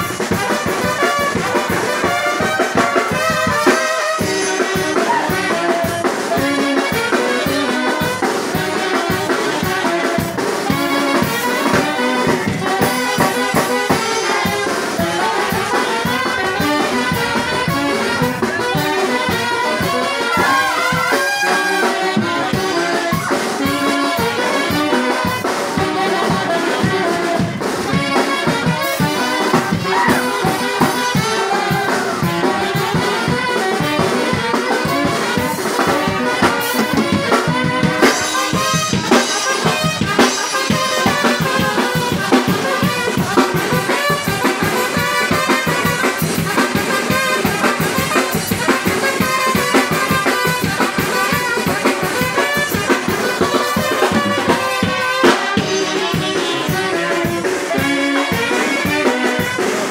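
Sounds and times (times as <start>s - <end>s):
drum kit beat: 0.0s - 59.9s
saxophones and trumpet melody: 0.0s - 59.9s.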